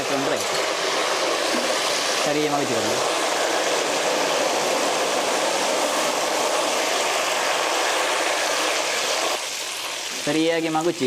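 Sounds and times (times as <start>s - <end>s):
chips deep-frying in oil: 0.0s - 11.0s.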